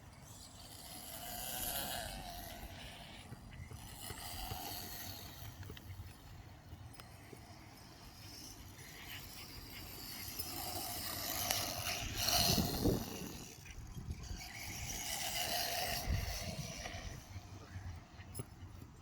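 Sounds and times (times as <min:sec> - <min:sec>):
rc car motor whining and rattling: 0:00.0 - 0:18.5.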